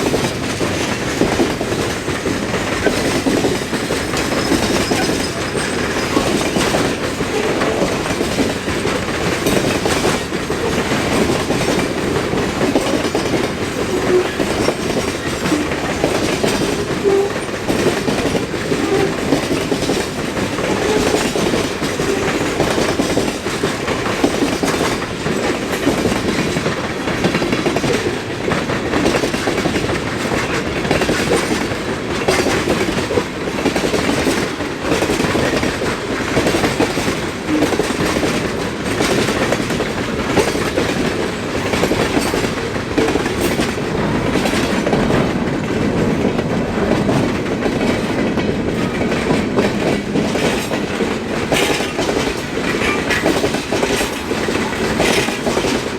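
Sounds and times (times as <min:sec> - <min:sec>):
freight train cars rumbling: 0:00.0 - 0:55.9
wheels clicking over rail joints: 0:00.0 - 0:55.9.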